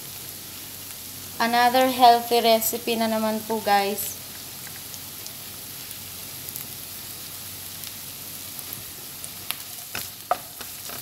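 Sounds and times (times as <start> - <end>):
onion and ginger sizzling in oil: 0.0 - 11.0.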